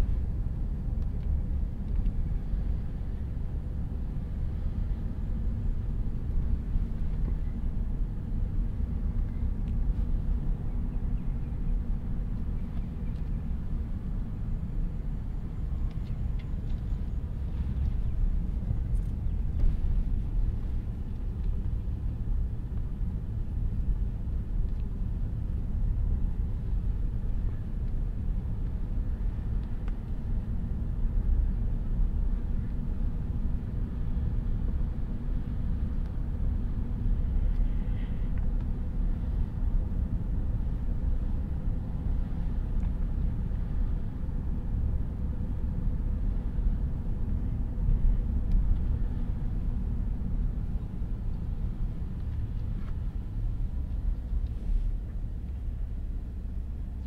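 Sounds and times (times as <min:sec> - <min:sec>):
car driving tyre rumble: 0:00.0 - 0:57.0.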